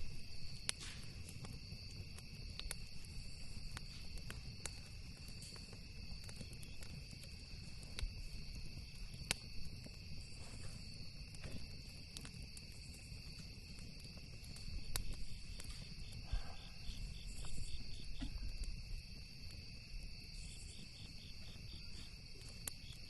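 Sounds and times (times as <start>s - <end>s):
campfire crackling and popping: 0.0s - 23.0s
crickets trilling: 0.0s - 23.0s.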